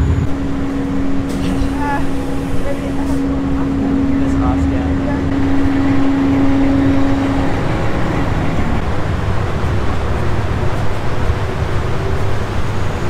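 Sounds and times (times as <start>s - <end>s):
ferry engine rumble: 0.0s - 13.0s
steady hum: 0.0s - 13.0s.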